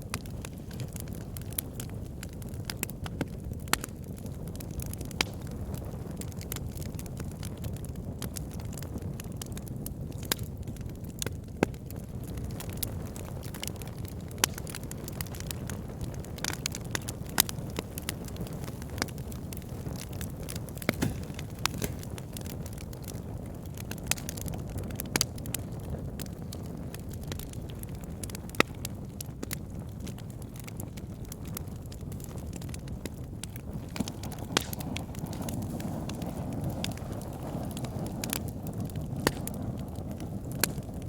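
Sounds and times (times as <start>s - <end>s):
burning wood crackling: 0.0s - 41.0s
fire burning rumble: 0.0s - 41.0s.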